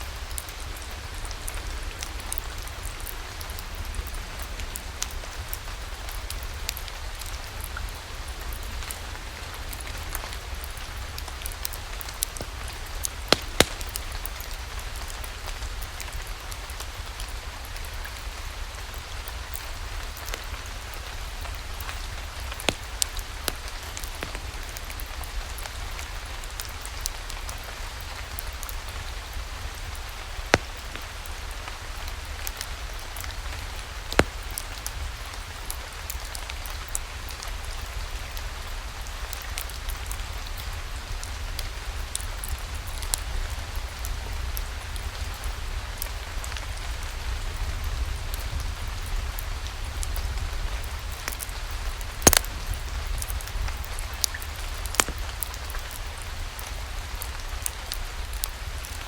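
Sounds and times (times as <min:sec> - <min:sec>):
rain falling: 0:00.0 - 0:59.0
wood fire crackling and popping: 0:00.2 - 0:38.3, 0:39.0 - 0:46.8, 0:47.8 - 0:59.0.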